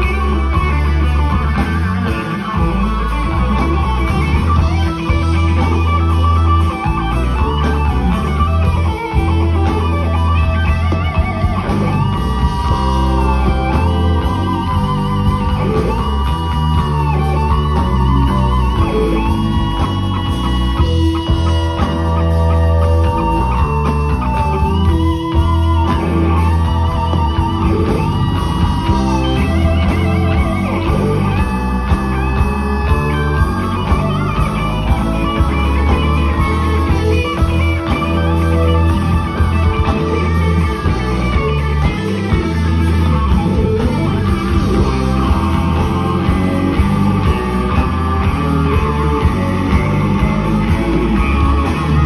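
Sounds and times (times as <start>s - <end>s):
bass line: 0.0s - 52.0s
electric guitar solo: 0.0s - 52.0s.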